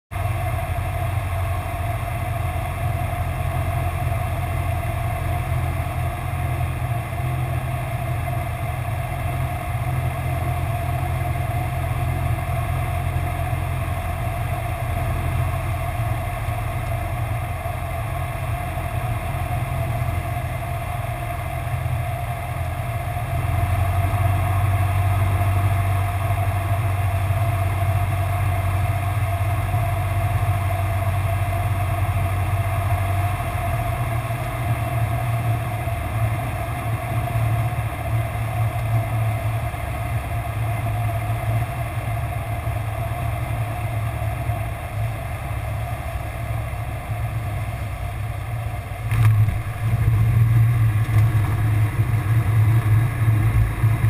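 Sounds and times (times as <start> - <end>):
propeller plane engine droning: 0.1 - 54.0.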